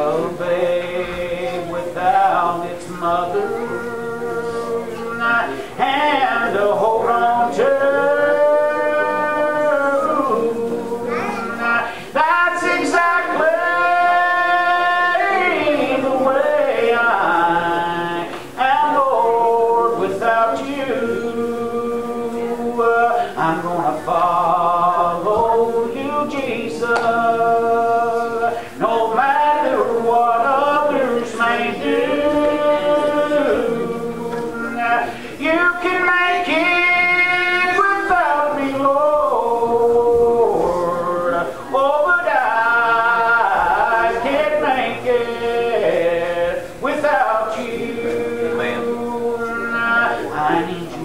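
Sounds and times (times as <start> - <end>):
congregation singing: 0.0 - 51.0.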